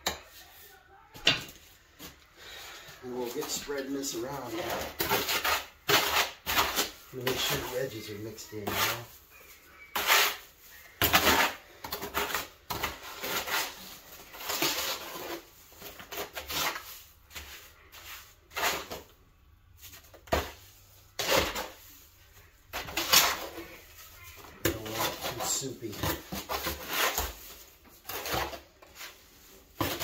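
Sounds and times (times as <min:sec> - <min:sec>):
trowel scraping wet mortar: 0:03.1 - 0:19.1, 0:20.2 - 0:22.0, 0:22.7 - 0:30.0.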